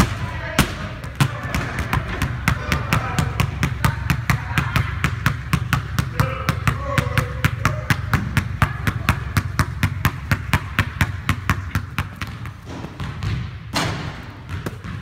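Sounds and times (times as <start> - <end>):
basketball dribbling on hardwood: 0.0 - 15.0.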